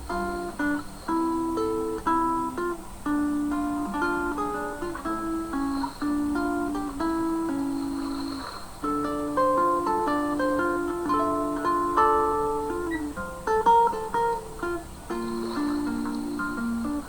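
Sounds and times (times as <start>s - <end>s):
acoustic guitar plucked melody: 0.0s - 17.0s.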